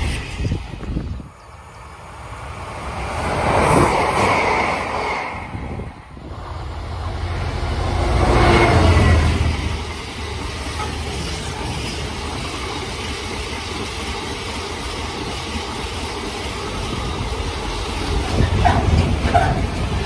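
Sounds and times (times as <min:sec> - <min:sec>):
diesel locomotive: 0:00.0 - 0:20.0
train wheels rumbling on rail: 0:00.0 - 0:20.0.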